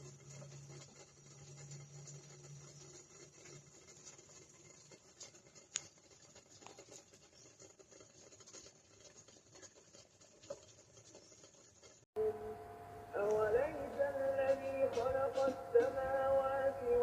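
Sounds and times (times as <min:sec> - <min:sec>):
light scratchy crackles: 0:00.0 - 0:12.1, 0:13.2 - 0:17.0.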